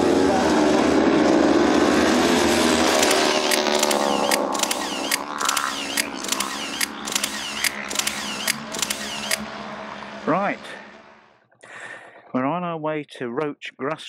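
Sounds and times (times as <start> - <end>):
engine noise: 0.0 - 11.4.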